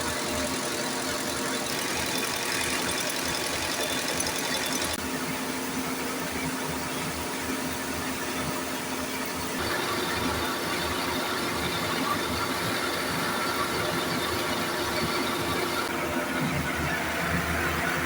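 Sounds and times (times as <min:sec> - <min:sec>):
diesel engine running: 0:00.0 - 0:18.0
rice milling machine running: 0:00.0 - 0:18.0.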